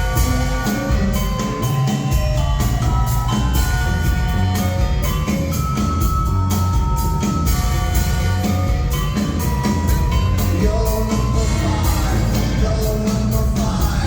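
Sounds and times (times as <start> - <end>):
bass line: 0.0 - 14.0
drum beat: 0.0 - 14.0
live rock band: 0.0 - 14.0.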